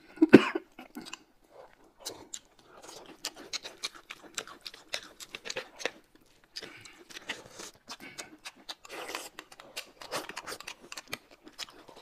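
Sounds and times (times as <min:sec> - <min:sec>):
slurping: 0:01.0 - 0:12.0
wet mouth clicks and smacks: 0:02.0 - 0:12.0.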